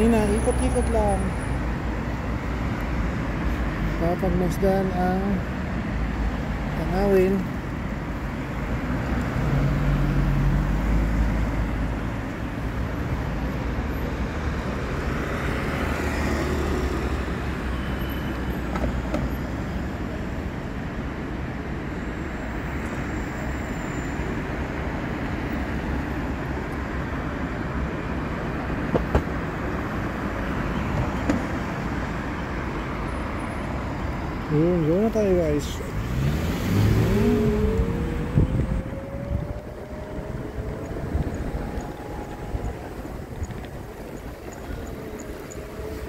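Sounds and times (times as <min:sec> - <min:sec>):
cars driving past: 0:00.0 - 0:20.4, 0:22.0 - 0:46.0
vehicle engine hum: 0:00.0 - 0:46.0.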